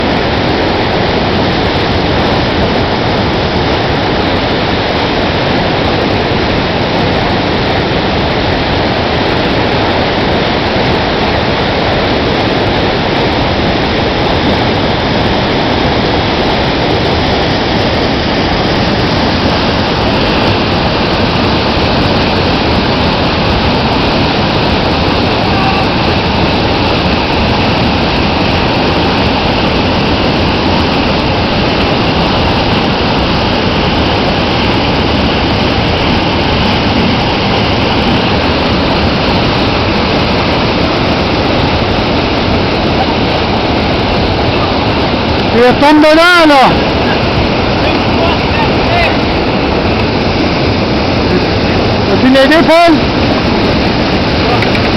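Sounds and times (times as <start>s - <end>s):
rushing whitewater: 0.0s - 54.9s.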